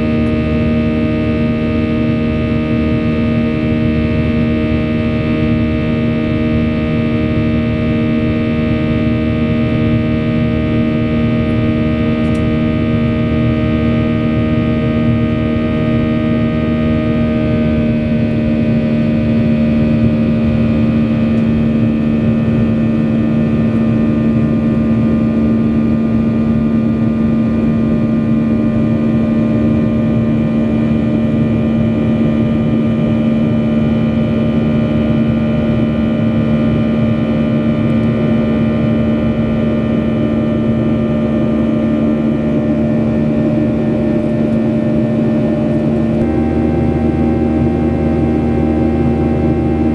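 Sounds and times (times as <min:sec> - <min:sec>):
jet engine drone in cabin: 0:00.0 - 0:49.9.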